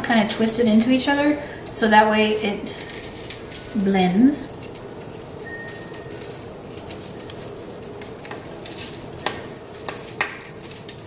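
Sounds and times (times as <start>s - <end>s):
flower stems rustling and clicking: 0.2s - 11.0s.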